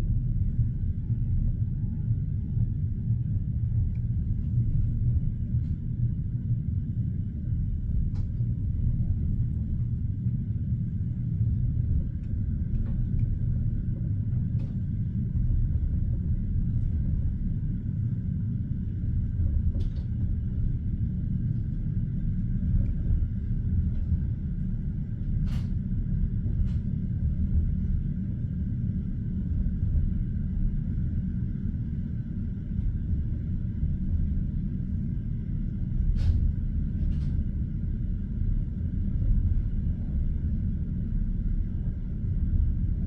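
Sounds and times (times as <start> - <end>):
train carriage rumbling: 0.0 - 43.0.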